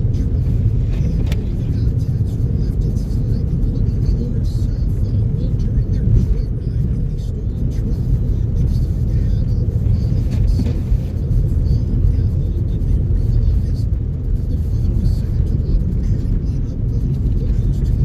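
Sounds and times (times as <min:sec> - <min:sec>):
vehicle engine and tyre rumble: 0:00.0 - 0:18.0.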